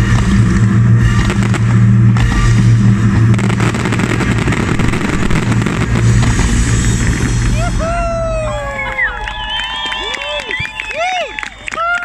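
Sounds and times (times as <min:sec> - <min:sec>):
fireworks launching and crackling: 0:00.0 - 0:10.1
steady low drone: 0:00.0 - 0:11.8.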